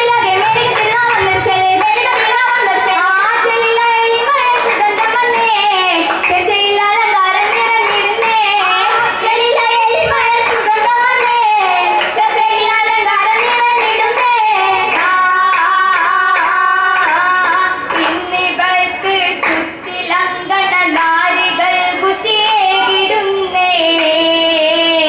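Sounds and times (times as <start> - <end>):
sharp hand claps: 0.0 - 20.2, 23.8 - 24.3
girls singing in unison: 0.0 - 25.0.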